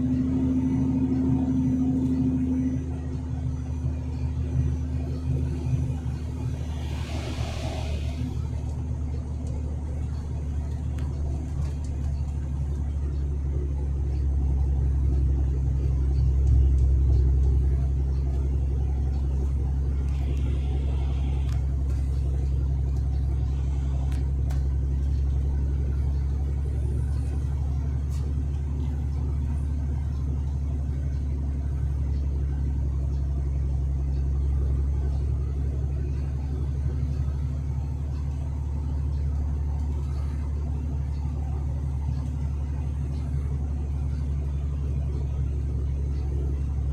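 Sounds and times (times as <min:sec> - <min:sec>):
truck engine and road noise: 0:00.0 - 0:46.9.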